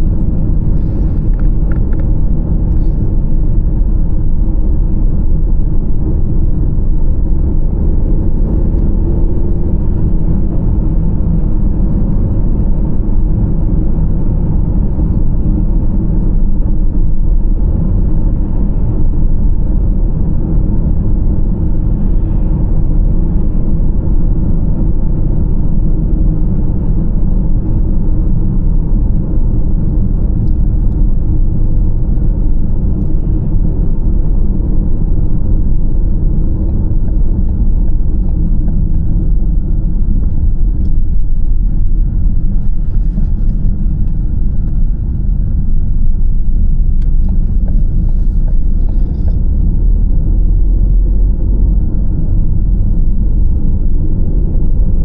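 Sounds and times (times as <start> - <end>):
car interior road noise: 0.0 - 55.0.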